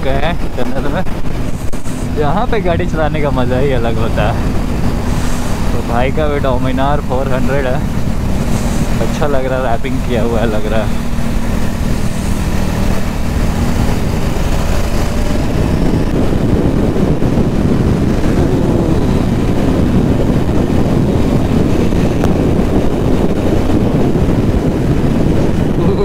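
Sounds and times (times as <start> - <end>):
motorcycle engine running: 0.0 - 26.0
wind rush on microphone: 0.0 - 26.0.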